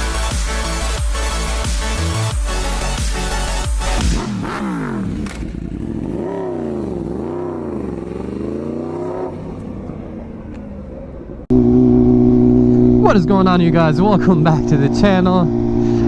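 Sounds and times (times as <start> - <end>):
steady engine hum: 0.0 - 16.0
vehicle engine revving: 0.0 - 16.0.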